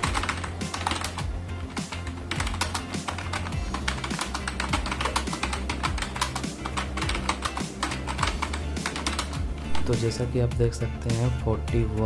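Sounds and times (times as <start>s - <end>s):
fast typing on keyboard: 0.0s - 10.2s
background music: 0.0s - 12.0s.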